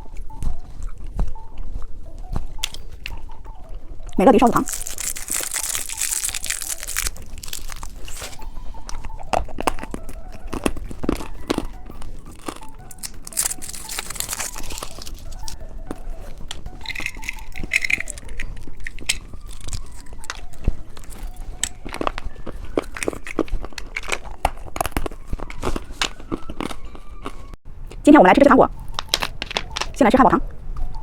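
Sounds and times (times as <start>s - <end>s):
crinkling: 0.0s - 28.0s, 28.8s - 30.1s
hard candy crunching: 0.0s - 28.0s, 28.7s - 30.0s.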